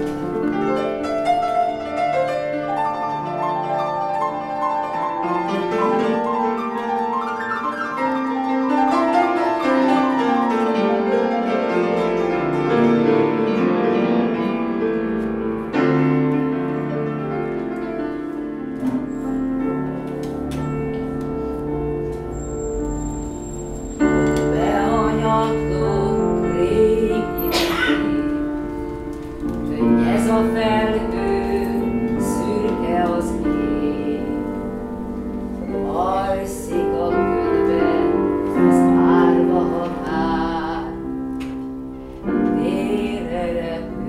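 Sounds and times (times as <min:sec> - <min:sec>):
grand piano playing classical passage: 0:00.0 - 0:44.0.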